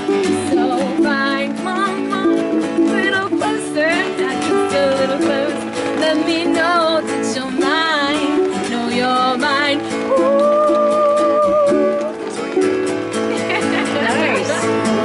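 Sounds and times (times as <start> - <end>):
woman singing with vibrato: 0.0 - 12.2
plucked string instrument chords: 0.0 - 15.0.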